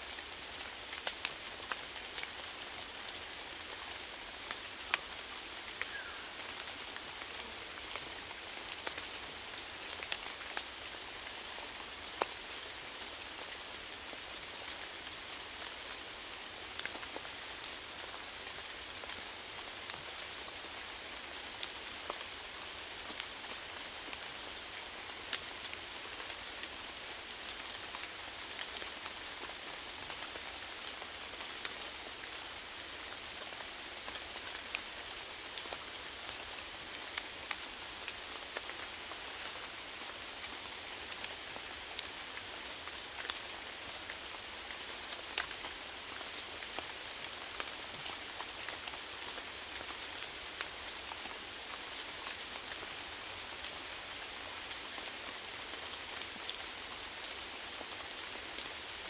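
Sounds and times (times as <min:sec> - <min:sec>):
raindrops ticking on a surface: 0:00.1 - 0:59.0.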